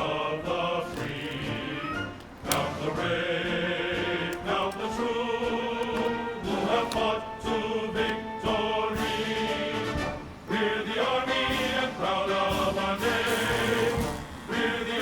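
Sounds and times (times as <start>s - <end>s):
choir-like chanted music: 0.0s - 15.0s.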